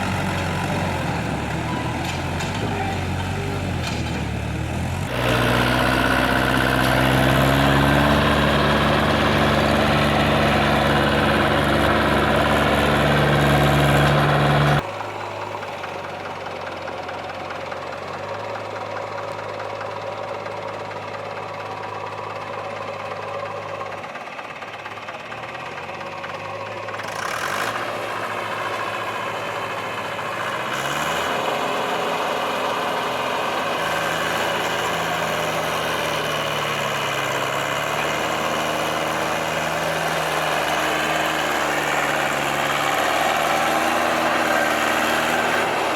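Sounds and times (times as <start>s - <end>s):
diesel engine knocking clatter: 0.0s - 45.9s.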